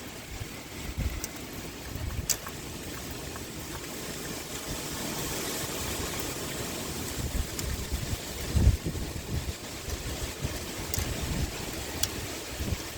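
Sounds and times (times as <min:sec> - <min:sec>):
water drips clicking: 0:00.0 - 0:12.3
steady rain falling: 0:00.0 - 0:12.9
wind gusting: 0:00.0 - 0:12.9.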